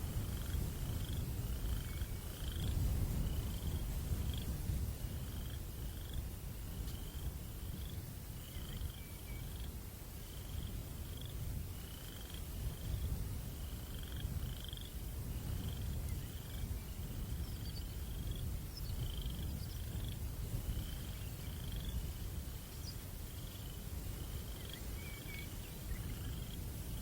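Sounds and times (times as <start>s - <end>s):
cricket chirping: 0.0s - 27.0s
low rumble of breeze: 0.0s - 27.0s.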